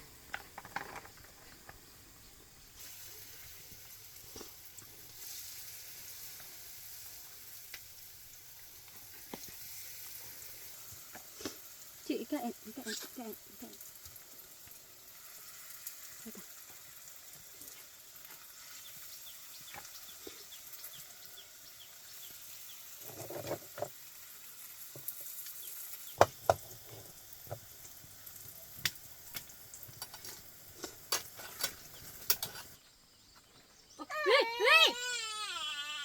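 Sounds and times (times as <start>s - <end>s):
food sizzling in hot oil: 1.2s - 32.8s.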